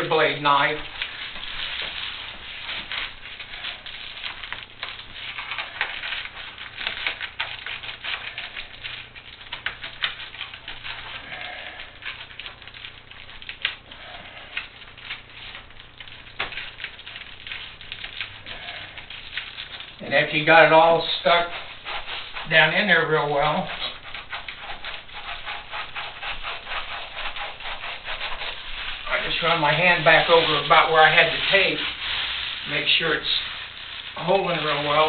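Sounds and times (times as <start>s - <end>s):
foil insulation crinkling: 0.0s - 35.0s.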